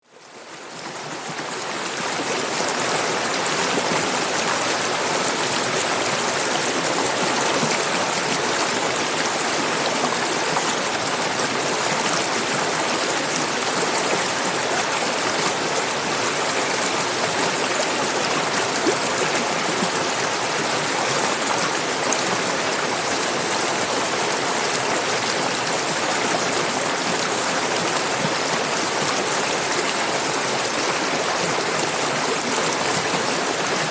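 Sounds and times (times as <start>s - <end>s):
river rushing over stones: 0.3s - 33.9s.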